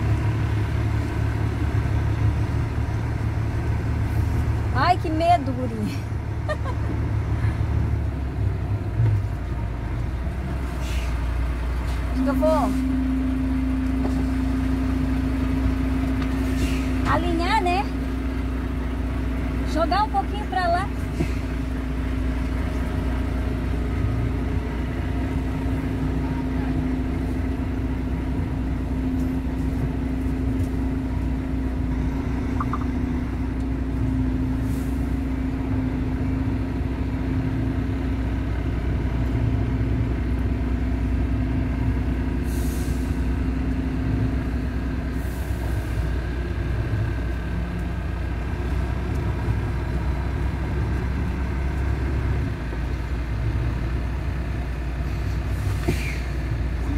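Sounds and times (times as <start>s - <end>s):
diesel truck engine running: 0.0s - 56.9s.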